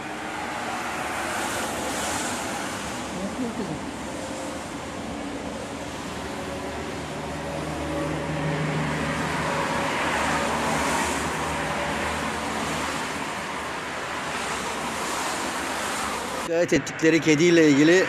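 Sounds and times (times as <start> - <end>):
traffic passing by: 0.0 - 18.0
vehicle engine humming: 0.0 - 18.0.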